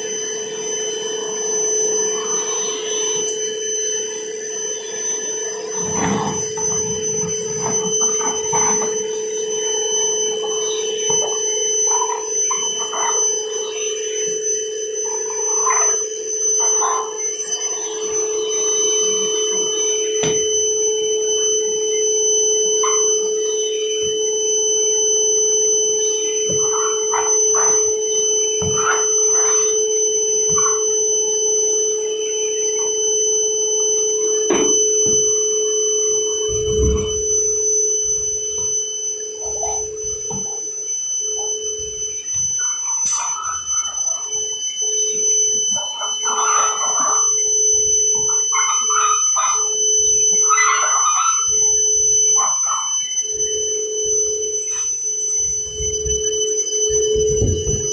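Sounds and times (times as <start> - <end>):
vacuum cleaner whine: 0.0 - 57.9.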